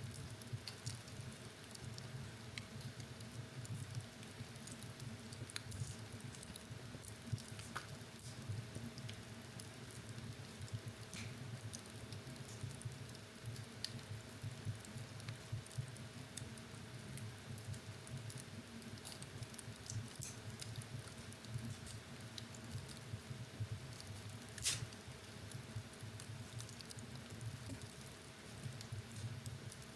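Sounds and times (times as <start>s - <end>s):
fire crackling in fireplace: 0.0s - 29.9s
low rumble of flames: 0.0s - 29.9s.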